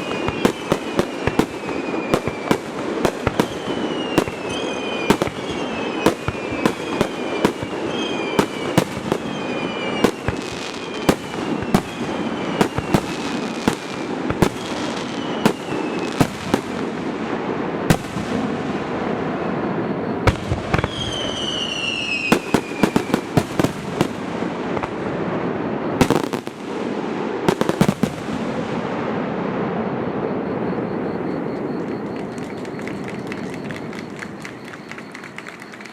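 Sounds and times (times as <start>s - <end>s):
firework whistles falling: 0.0s - 17.0s, 19.2s - 26.7s, 29.8s - 35.9s.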